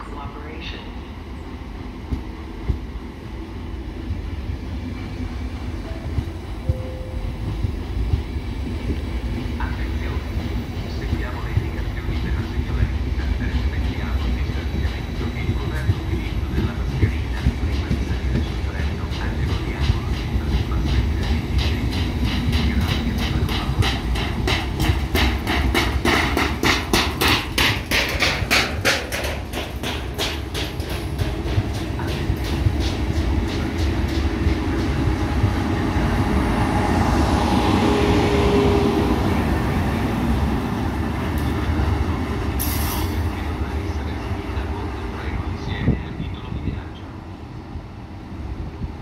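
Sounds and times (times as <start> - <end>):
train rumble: 0.0 - 49.0
train wheels clickety-clack: 2.0 - 47.0.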